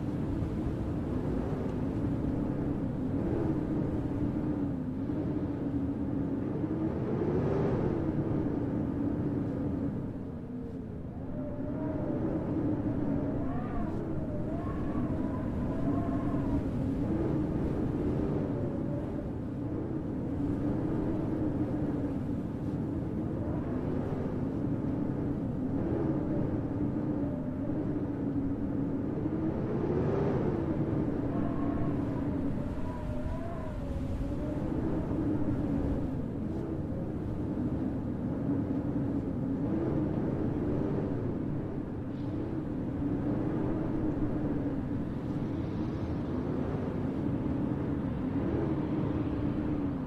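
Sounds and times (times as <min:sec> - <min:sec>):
faint wavering hum: 0:00.0 - 0:50.0
snowstorm wind rushing: 0:00.0 - 0:50.0.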